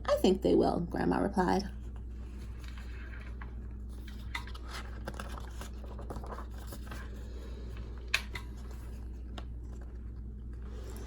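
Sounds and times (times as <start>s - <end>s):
steady low hum: 0.0s - 11.0s
paper page rustling: 1.7s - 11.0s.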